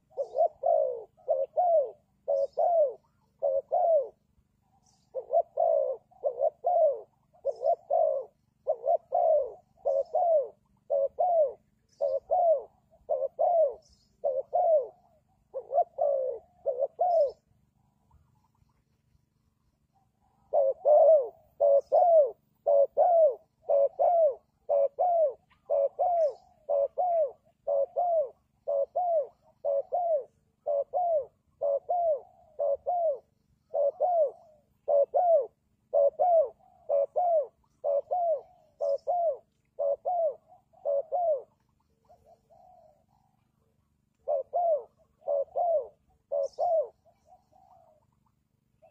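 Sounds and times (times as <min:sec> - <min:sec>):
dove cooing: 0:00.0 - 0:19.1, 0:19.7 - 0:48.9.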